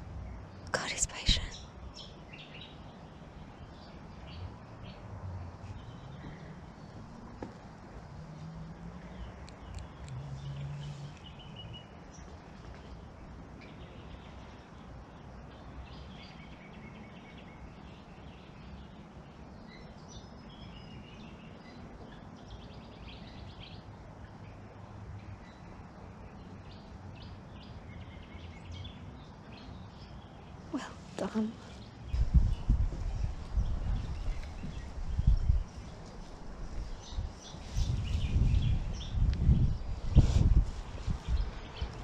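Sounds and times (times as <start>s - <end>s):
steady low background noise: 0.0s - 42.0s.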